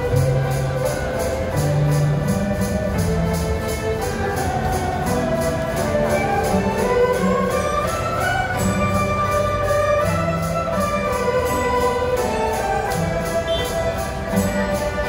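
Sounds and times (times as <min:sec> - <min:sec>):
high percussive beat: 0:00.0 - 0:15.0
orchestra playing: 0:00.0 - 0:15.0.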